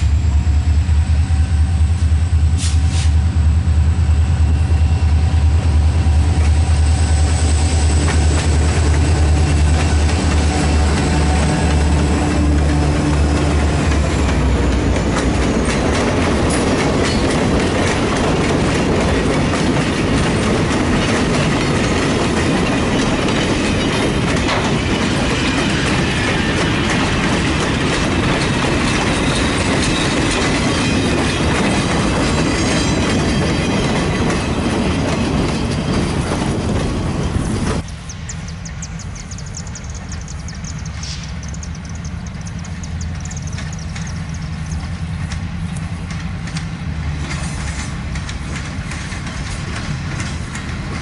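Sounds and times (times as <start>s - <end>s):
locomotive engine drone: 0.0s - 51.0s.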